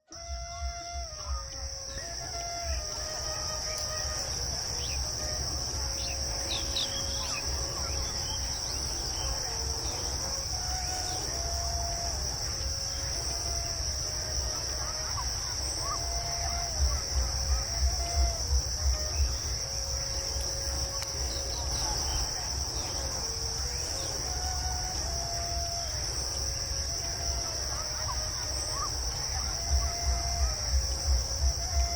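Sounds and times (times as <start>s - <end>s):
high-pitched insect chorus: 0.0s - 31.9s
low pulsing rumble: 0.3s - 31.9s.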